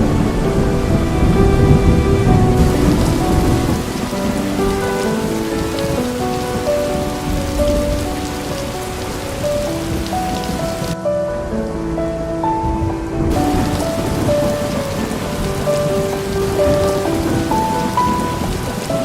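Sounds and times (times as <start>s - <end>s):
steady rain: 0.0s - 11.0s, 13.2s - 19.0s
soft instrumental music: 0.0s - 19.0s
thunder rumble: 0.0s - 19.0s.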